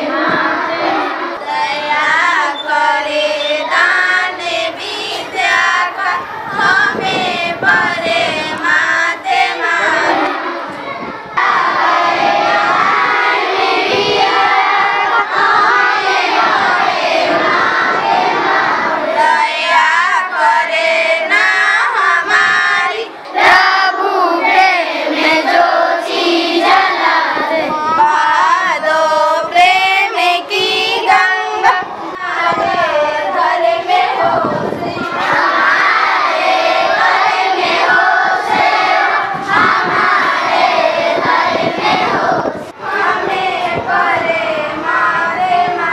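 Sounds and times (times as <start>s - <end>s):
children singing together: 0.0s - 45.9s.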